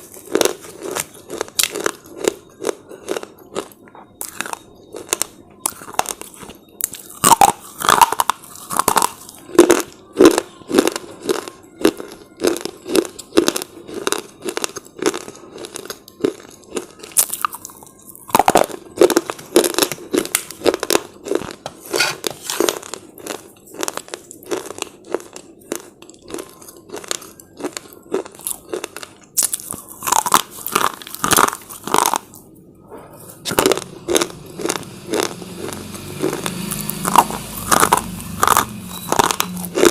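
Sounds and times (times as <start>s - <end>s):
person chewing crunchy chips: 0.0s - 39.9s.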